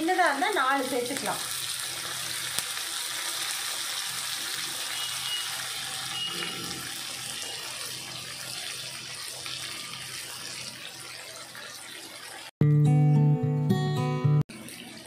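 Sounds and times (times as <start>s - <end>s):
onions sizzling in hot oil: 0.0s - 12.5s.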